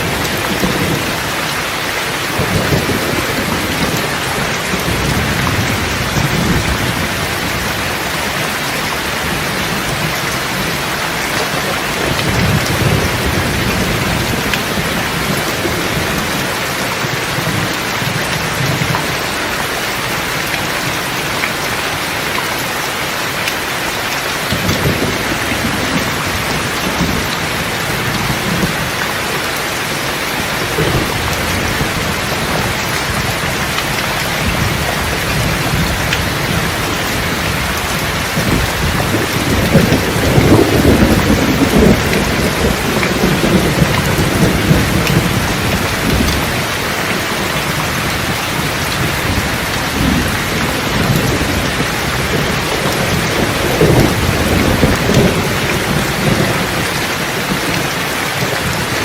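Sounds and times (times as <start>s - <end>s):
rolling thunder: 0.0s - 19.3s, 24.5s - 29.2s, 29.8s - 59.0s
steady rain falling: 0.0s - 59.0s.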